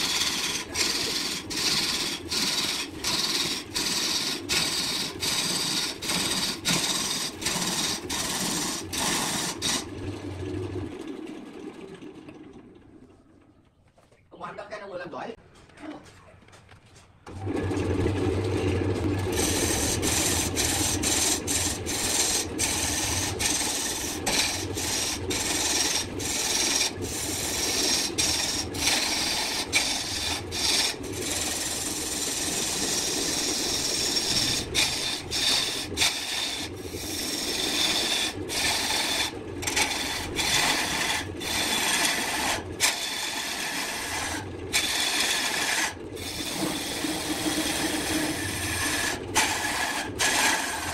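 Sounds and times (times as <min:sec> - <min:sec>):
gouge cutting spinning wood: 0:00.0 - 0:10.8, 0:17.3 - 0:50.9
lathe motor hum: 0:00.0 - 0:13.1, 0:17.3 - 0:50.9.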